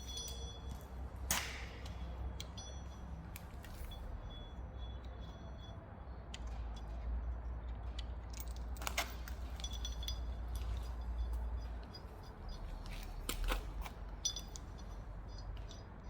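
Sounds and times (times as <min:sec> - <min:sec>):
low workshop hum: 0:00.0 - 0:16.0
metallic clicks and clinks: 0:00.0 - 0:16.0.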